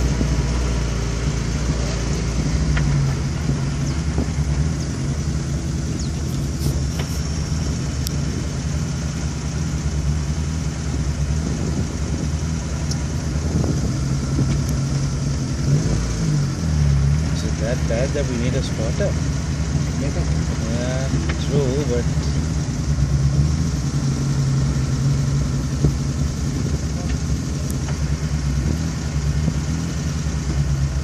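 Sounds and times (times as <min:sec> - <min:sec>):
car engine low hum: 0:00.0 - 0:31.0.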